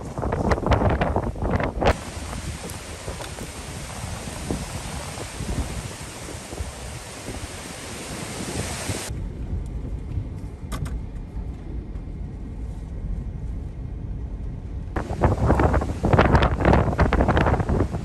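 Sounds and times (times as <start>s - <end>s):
wind and rain buffeting microphone: 0.0s - 18.0s.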